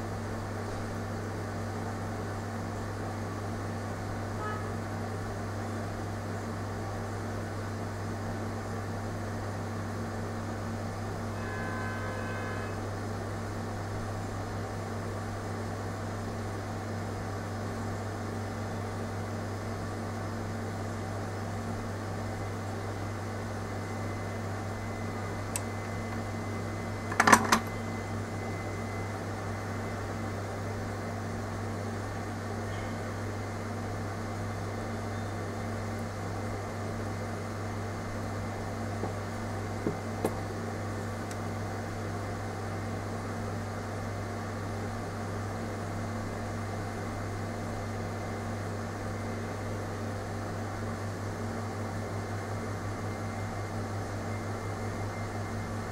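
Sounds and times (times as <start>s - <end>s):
machine hum with fan rush: 0.0s - 55.9s.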